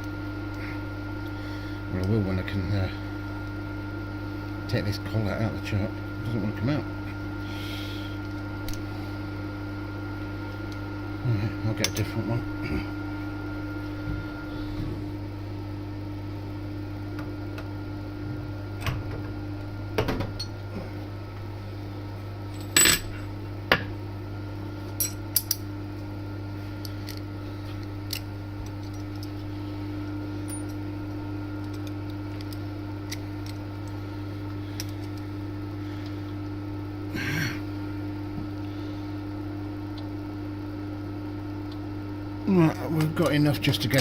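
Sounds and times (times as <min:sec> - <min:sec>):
low workshop hum: 0:00.0 - 0:44.0.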